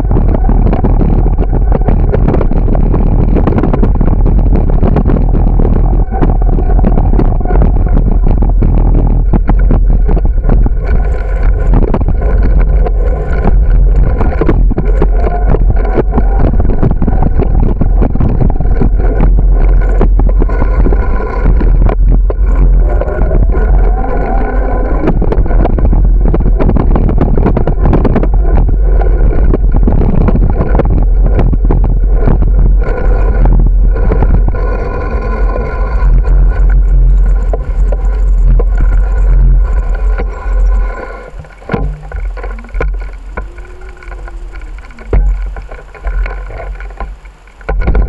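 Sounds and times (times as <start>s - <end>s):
bike rattling over pavement: 0.0s - 48.0s
wind buffeting microphone: 0.0s - 48.0s.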